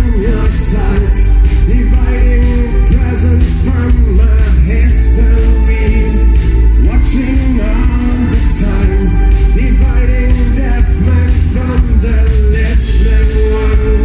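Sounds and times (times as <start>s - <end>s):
heavy booming bass: 0.0s - 14.0s
live synth-pop song: 0.0s - 14.0s
person singing: 0.0s - 14.0s.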